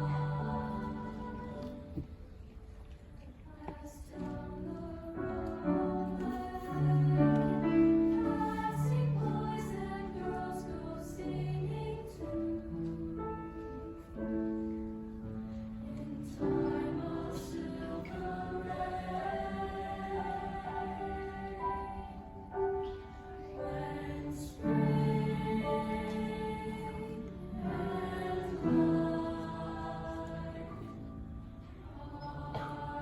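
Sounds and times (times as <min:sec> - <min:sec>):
choir singing in parts: 0:00.0 - 0:02.2, 0:03.5 - 0:14.9, 0:15.6 - 0:33.0.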